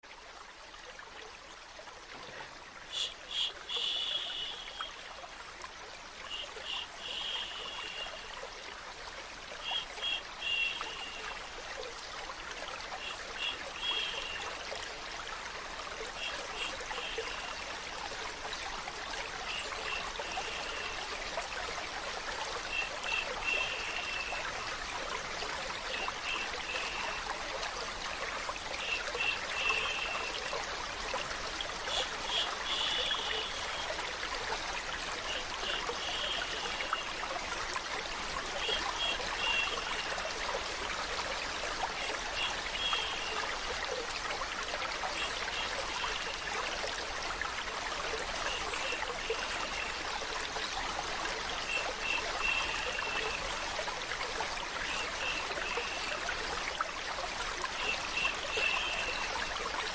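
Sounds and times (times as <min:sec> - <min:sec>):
stream trickling: 0:00.0 - 0:59.9.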